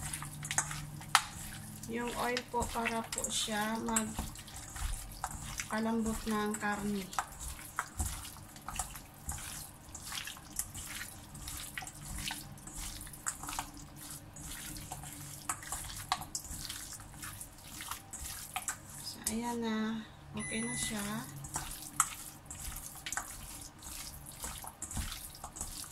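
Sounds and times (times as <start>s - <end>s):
meat clicking against metal bowl: 0.0s - 19.4s, 21.4s - 25.9s
hands squishing marinated meat: 0.0s - 19.6s, 20.6s - 25.9s.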